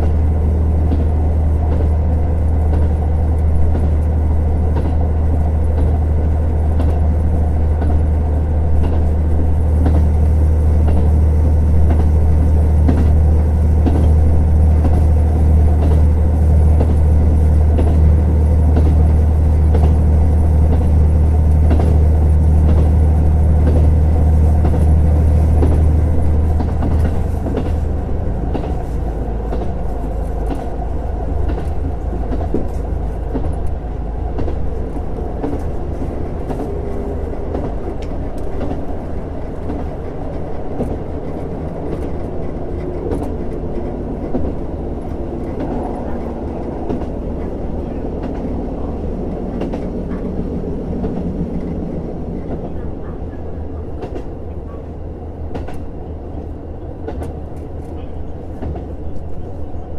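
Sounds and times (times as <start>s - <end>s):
diesel railcar engine droning: 0.0s - 59.9s.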